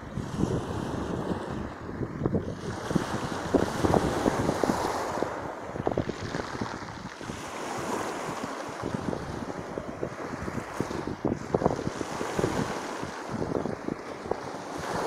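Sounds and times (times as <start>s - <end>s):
wind buffeting microphone: 0.0s - 15.0s
waves breaking on pebble beach: 2.4s - 15.0s.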